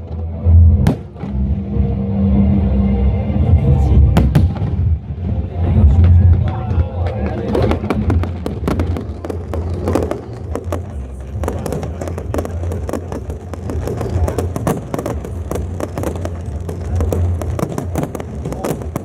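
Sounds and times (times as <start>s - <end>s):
fireworks crackling and popping: 0.0s - 1.4s, 4.2s - 19.0s
music: 0.0s - 19.0s
steady low rumble: 0.0s - 19.0s.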